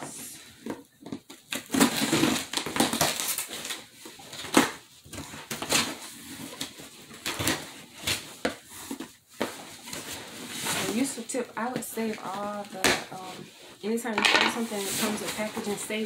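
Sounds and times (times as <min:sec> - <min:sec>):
packing rustling and crinkling: 0:00.4 - 0:16.0.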